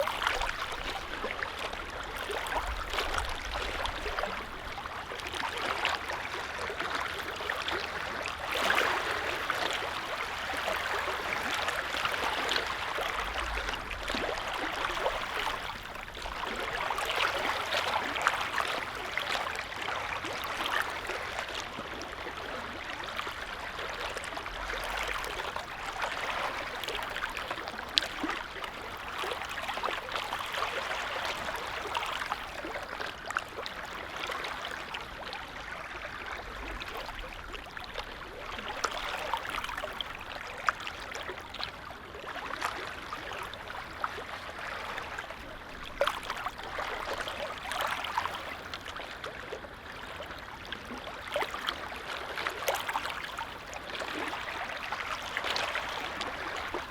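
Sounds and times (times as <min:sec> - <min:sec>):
small waves lapping: 0:00.0 - 0:56.9.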